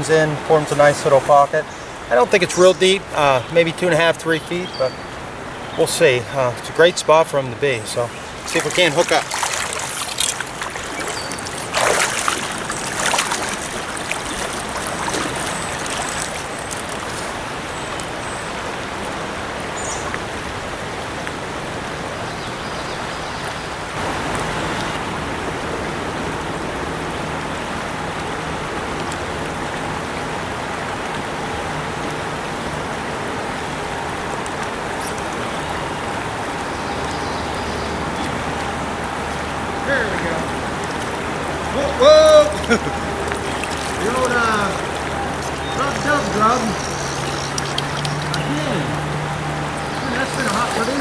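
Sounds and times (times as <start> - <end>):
river water running over rocks: 0.0 - 51.0.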